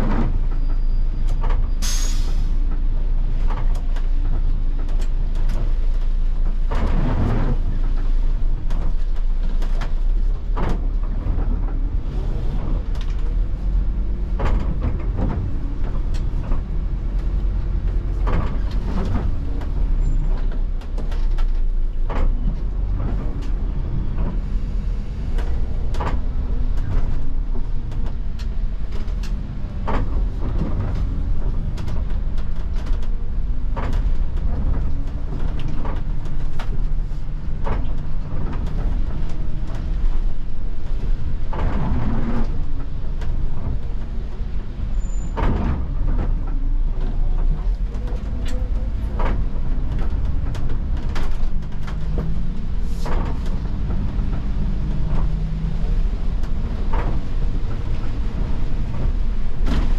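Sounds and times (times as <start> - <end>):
windscreen wiper sweep and click: 0.0 - 1.8, 2.5 - 59.9
bus engine droning: 0.0 - 59.9
tyres on wet road: 0.0 - 59.9.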